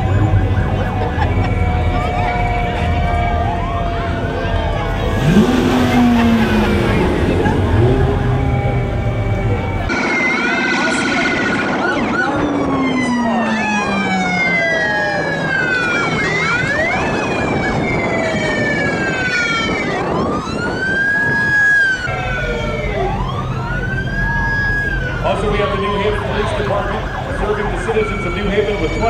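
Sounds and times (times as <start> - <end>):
emergency vehicle sirens wailing: 0.0 - 29.0.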